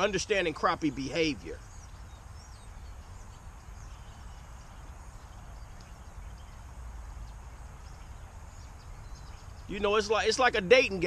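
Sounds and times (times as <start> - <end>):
faint bird chirps: 0.0 - 11.0
wind rumble on microphone: 1.4 - 11.0.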